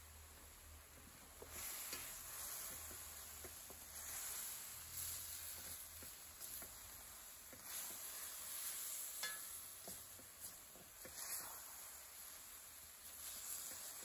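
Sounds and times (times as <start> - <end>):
chicken sizzling in oil: 0.0 - 14.0
spoon scraping a pan: 1.4 - 14.0.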